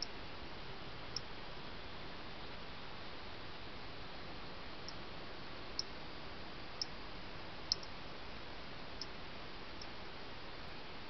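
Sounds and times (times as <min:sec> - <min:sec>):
microphone hiss: 0:00.0 - 0:11.0.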